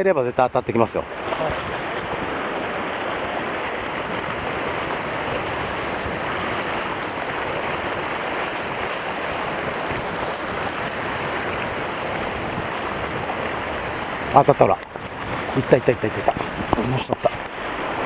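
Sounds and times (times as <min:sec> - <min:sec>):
surf washing against rocks: 0:00.0 - 0:18.0.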